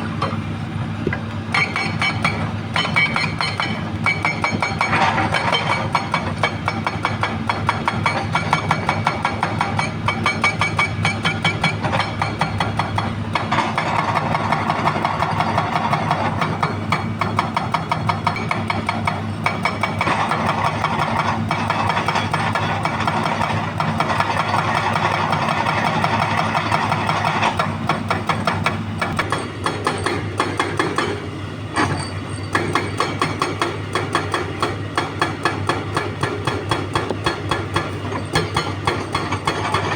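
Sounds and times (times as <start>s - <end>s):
excavator engine running: 0.0s - 39.9s
hydraulic breaker hammering rock: 0.0s - 39.9s.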